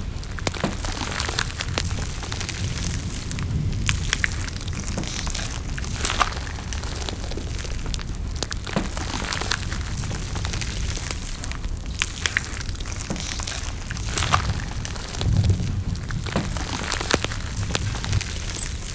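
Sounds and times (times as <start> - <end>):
small clicks and crackles: 0.0 - 18.9
chewing and mouth noises: 0.2 - 18.9.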